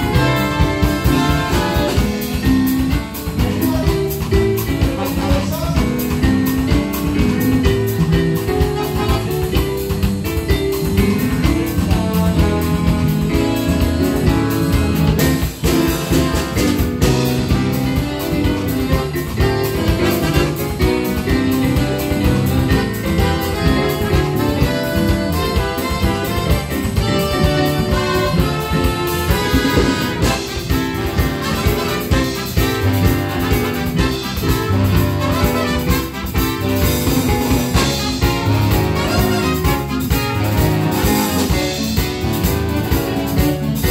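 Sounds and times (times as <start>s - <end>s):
saxophones and brass: 0.0s - 2.9s, 7.0s - 10.0s, 10.8s - 43.9s
live jazz band: 0.0s - 43.9s.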